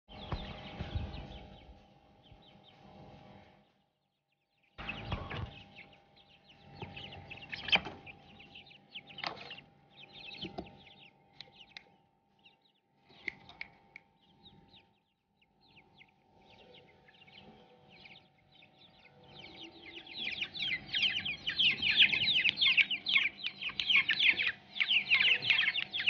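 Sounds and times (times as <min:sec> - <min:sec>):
chicks peeping: 0:00.1 - 0:26.0.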